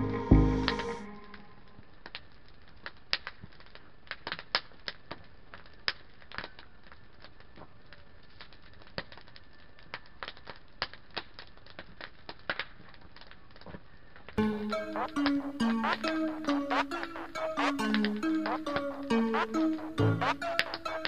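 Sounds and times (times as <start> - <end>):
wood fire crackling: 0.8 - 21.0.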